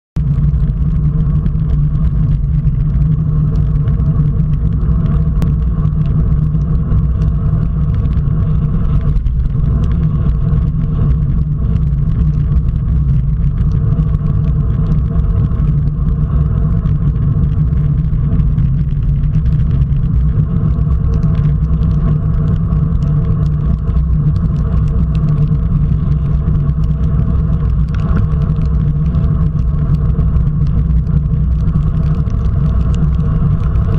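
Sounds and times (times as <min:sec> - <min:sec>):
tyre noise on wet road: 0:00.2 - 0:33.9
wind buffeting microphone: 0:00.2 - 0:33.9.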